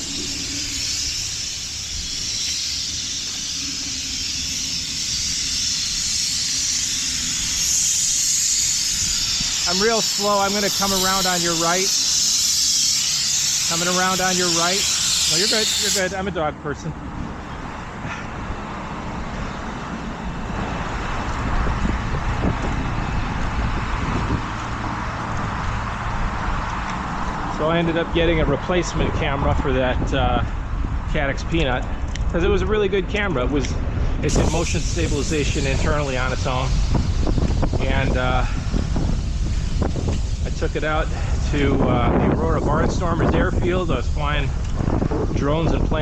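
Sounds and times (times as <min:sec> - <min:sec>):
road noise: 0:00.0 - 0:46.0
wind rushing over microphone: 0:00.0 - 0:46.0.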